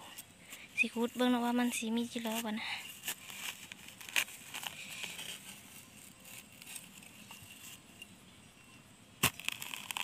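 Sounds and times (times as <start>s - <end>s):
metal blade scraping dry soil: 0.1s - 10.0s.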